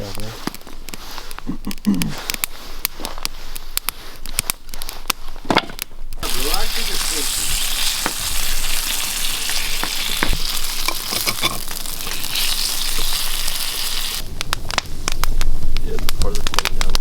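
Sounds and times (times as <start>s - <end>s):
branches burning with crackling pops: 0.0s - 17.0s.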